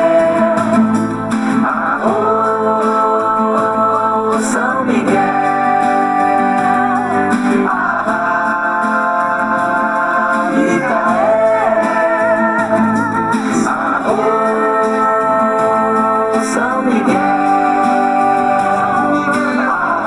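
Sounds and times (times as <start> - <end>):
acoustic guitar accompaniment: 0.0 - 20.0
person singing long wavering notes: 0.0 - 20.0.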